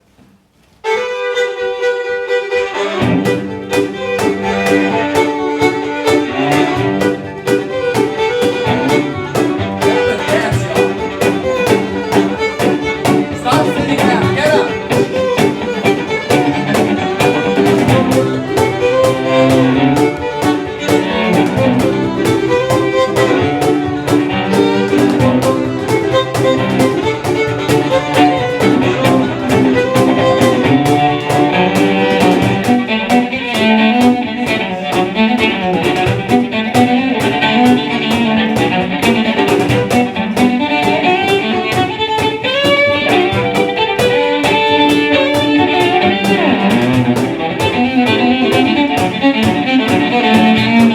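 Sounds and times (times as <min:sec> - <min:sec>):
fiddle melody: 0:00.7 - 0:50.9
band playing instrumental tune: 0:00.8 - 0:50.9.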